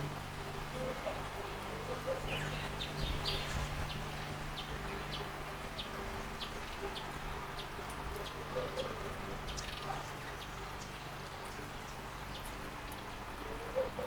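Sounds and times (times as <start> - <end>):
fountain trickling: 0.0 - 14.0.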